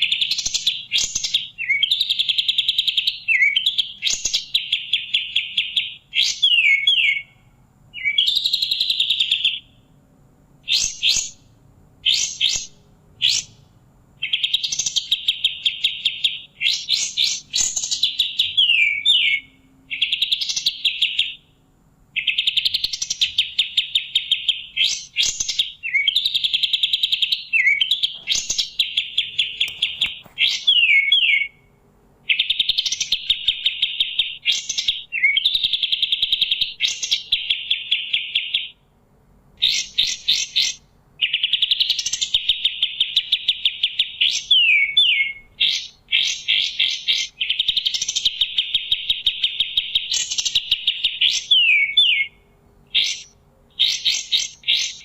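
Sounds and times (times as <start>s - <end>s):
songbird singing chattering phrases: 0.0s - 9.9s, 10.6s - 38.9s, 39.6s - 55.0s.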